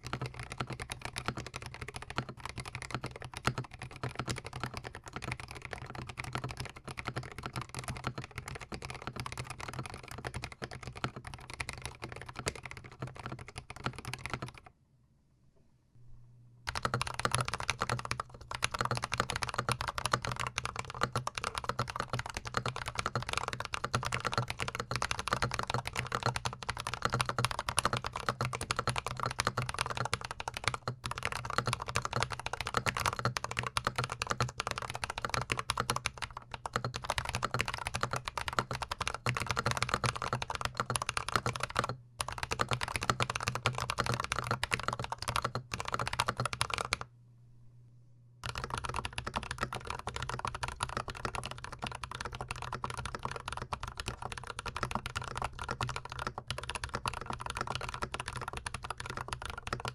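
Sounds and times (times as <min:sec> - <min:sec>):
mechanical keyboard typing: 0:00.0 - 0:14.7, 0:16.7 - 0:47.1, 0:48.4 - 0:59.9.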